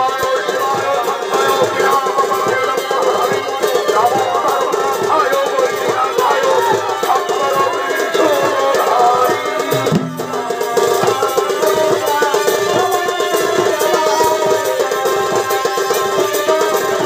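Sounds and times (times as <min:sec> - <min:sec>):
fast steady drumming: 0:00.0 - 0:17.0.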